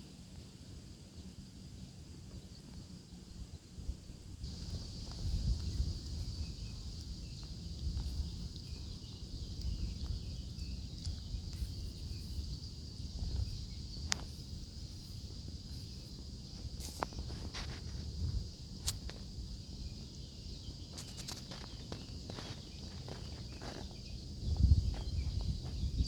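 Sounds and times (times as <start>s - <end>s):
insect chorus: 0.0s - 26.0s.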